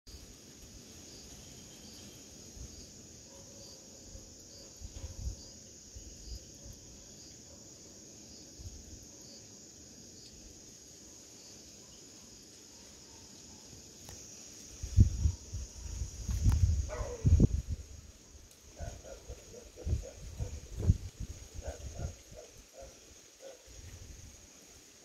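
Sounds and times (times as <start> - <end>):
high-pitched insect trill: 0.1 - 25.0
short insect chirp: 0.1 - 25.0.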